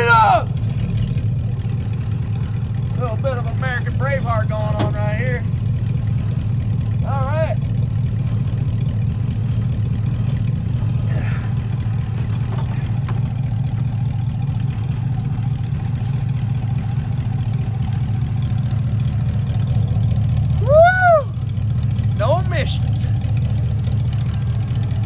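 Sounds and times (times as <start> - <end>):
pickup truck idling: 0.0 - 25.0.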